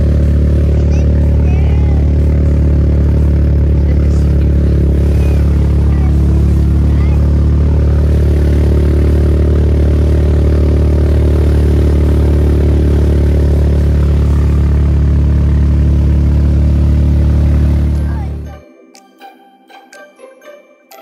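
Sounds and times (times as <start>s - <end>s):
utility vehicle engine drone: 0.0s - 19.0s.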